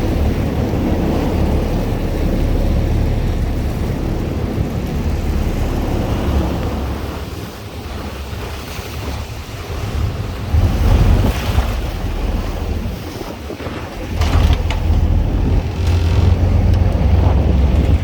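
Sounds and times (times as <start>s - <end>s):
ocean surf washing on shore: 0.0s - 18.0s
wind buffeting microphone: 0.0s - 18.0s.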